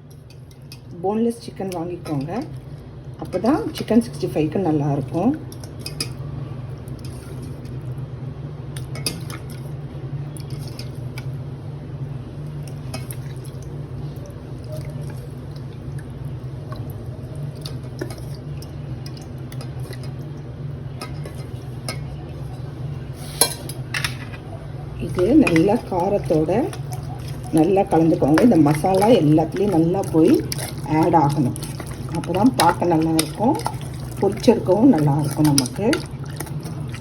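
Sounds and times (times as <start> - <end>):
wet stirring: 0.0 - 6.2, 8.8 - 11.3, 12.3 - 37.0.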